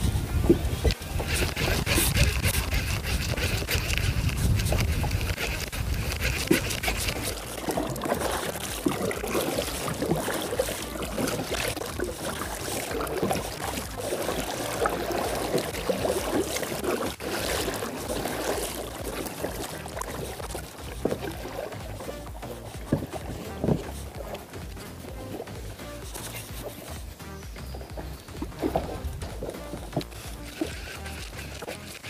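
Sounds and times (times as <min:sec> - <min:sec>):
small water splashes: 0:00.0 - 0:32.0
water lapping against kayak hull: 0:00.0 - 0:32.0
wind rumble on microphone: 0:00.0 - 0:32.0.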